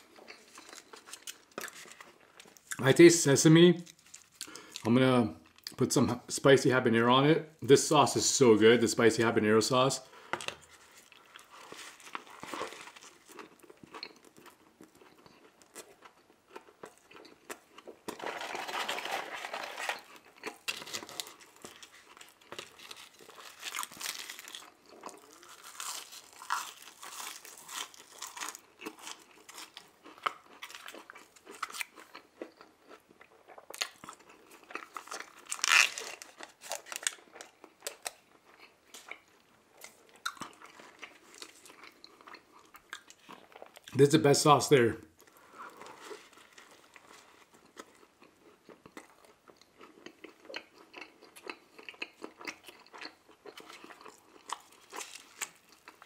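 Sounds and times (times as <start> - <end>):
crunching chewing: 0.0 - 2.8, 10.2 - 44.0, 45.2 - 56.0.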